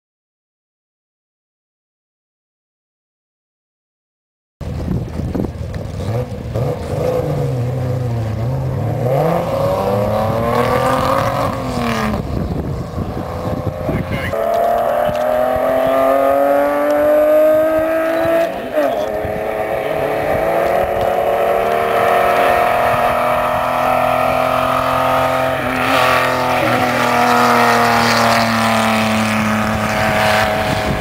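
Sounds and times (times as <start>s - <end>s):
car engine accelerating: 4.6s - 31.0s
gear change: 4.6s - 31.0s.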